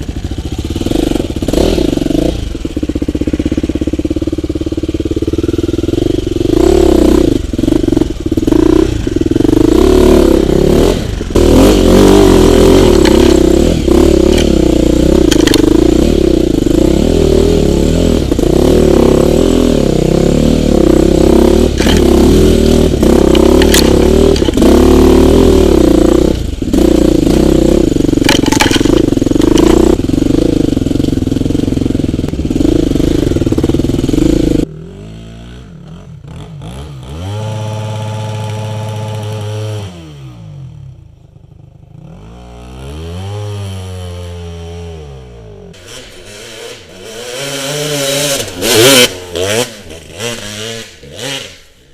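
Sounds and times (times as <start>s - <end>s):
dirt bike engine revving: 0.0s - 41.0s, 41.9s - 51.9s.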